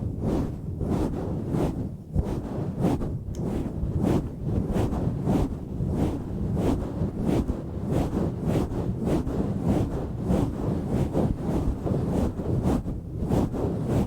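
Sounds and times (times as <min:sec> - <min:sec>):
microphone foam rubbing rustle: 0:00.0 - 0:14.0.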